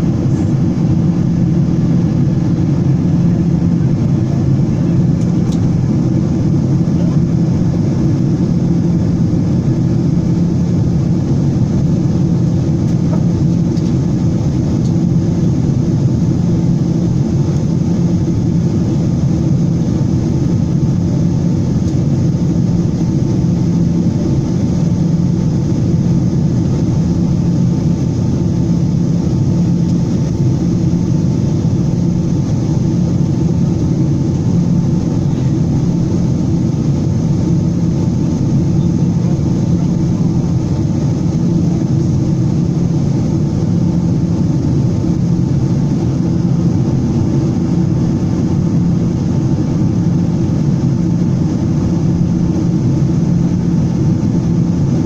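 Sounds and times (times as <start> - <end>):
airliner cabin jet engine noise: 0.0 - 55.0.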